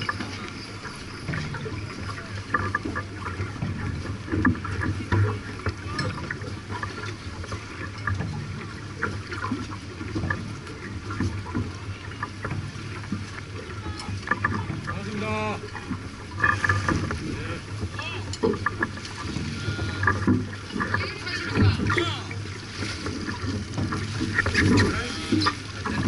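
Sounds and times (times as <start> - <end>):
water rushing past hull: 0.0 - 26.0.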